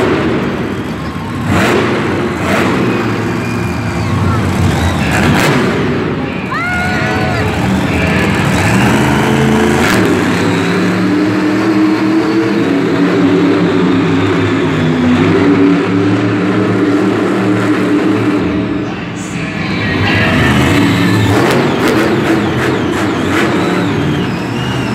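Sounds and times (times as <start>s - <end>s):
monster truck engine revving: 0.0s - 18.8s, 19.5s - 24.9s.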